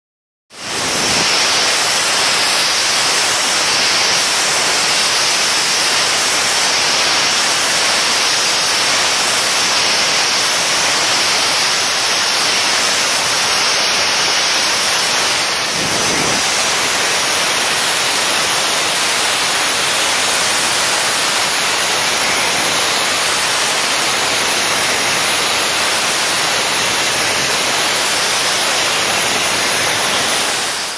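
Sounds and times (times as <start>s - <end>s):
loud steady hissing: 0.6s - 30.9s.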